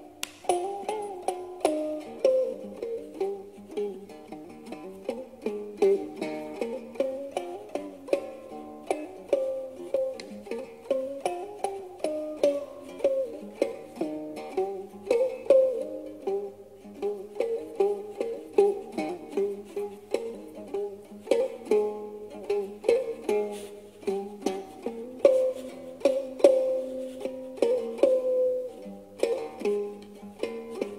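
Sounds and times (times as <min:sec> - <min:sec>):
plucked stick zither melody: 0:00.0 - 0:30.9.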